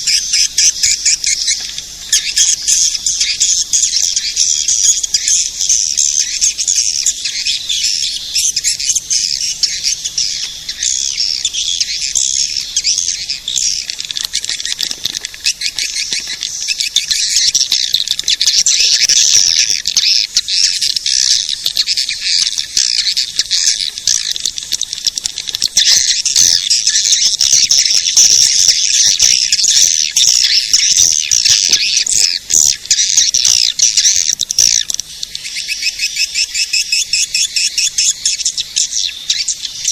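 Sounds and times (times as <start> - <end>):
birds twittering and chirping: 0.0 - 39.9.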